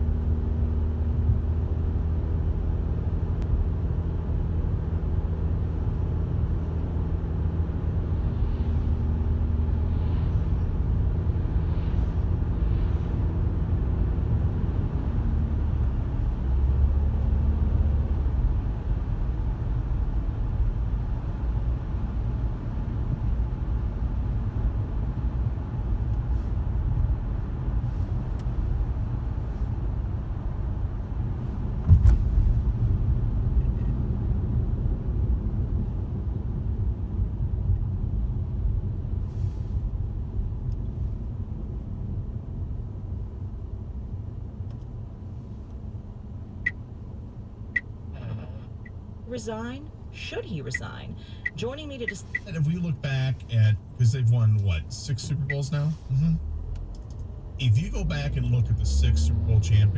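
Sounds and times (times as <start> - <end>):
car engine hum: 0.0 - 59.9
road rumble on wet road: 0.0 - 59.9.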